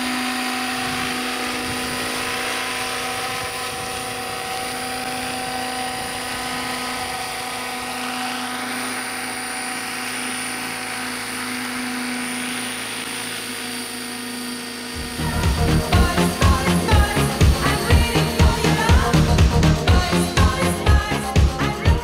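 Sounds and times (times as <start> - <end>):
model helicopter rotor whine: 0.0 - 22.0.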